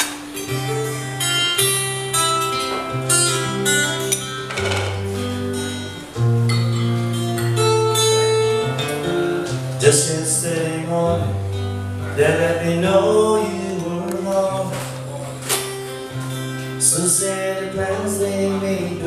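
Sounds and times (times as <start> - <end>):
acoustic guitar plucked chords: 0.0 - 19.0.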